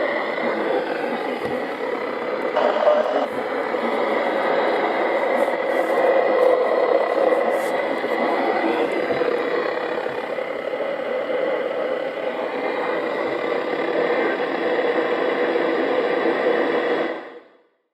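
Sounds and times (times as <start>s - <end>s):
faint steady tones: 0.0s - 17.0s
radio static hiss: 0.0s - 17.2s.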